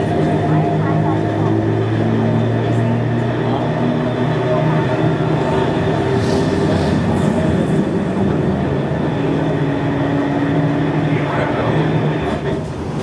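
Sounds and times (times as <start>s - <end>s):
streetcar motor hum: 0.0s - 13.0s
wheel-on-rail rumble: 0.0s - 13.0s.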